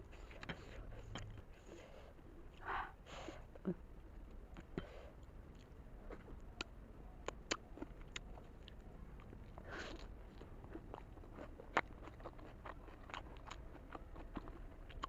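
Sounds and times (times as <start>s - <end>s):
person chewing wetly: 0.1s - 2.6s, 4.0s - 15.0s.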